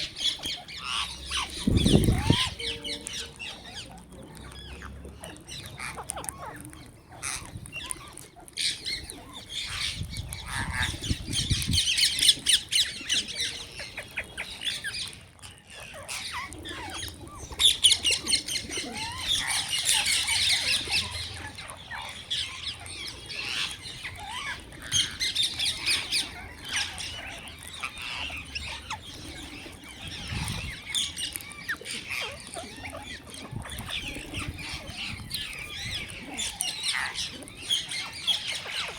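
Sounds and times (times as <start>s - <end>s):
birds chirping and squawking: 0.0s - 38.9s.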